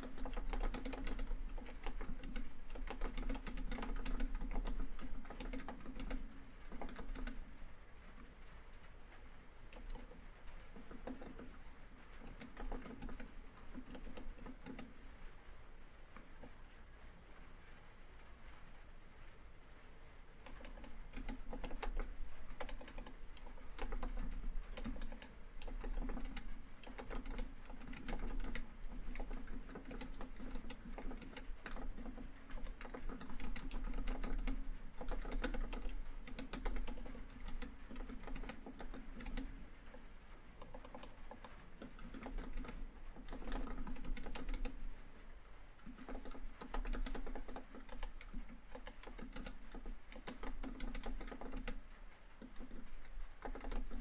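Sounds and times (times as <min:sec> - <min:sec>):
laptop keyboard typing: 0:00.0 - 0:07.6, 0:09.6 - 0:15.1, 0:16.1 - 0:16.6, 0:20.3 - 0:45.1, 0:45.7 - 0:54.0.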